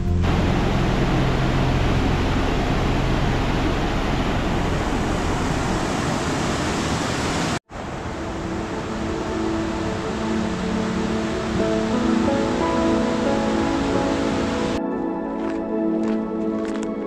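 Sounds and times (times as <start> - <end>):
falling water rushing: 0.0 - 14.8.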